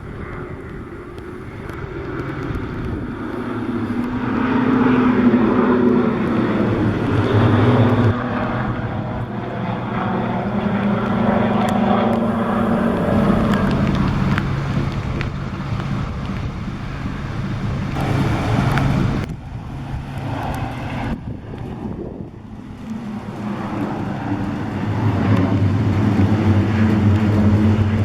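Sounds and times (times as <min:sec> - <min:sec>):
propeller aircraft flying past: 0:00.0 - 0:28.0.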